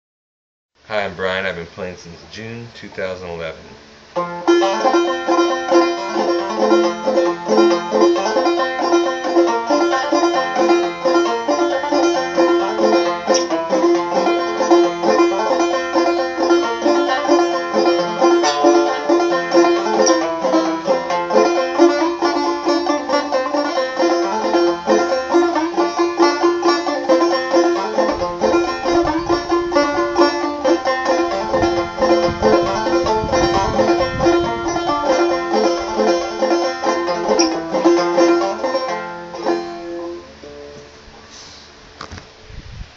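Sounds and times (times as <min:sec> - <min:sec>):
banjo picking: 0:03.8 - 0:40.9.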